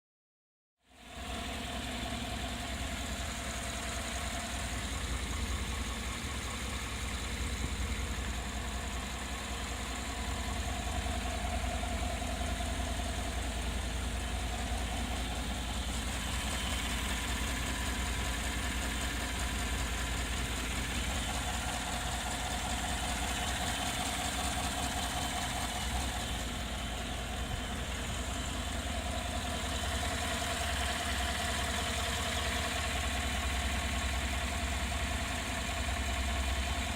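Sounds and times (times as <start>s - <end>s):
vehicle engine idling: 0.9s - 36.9s.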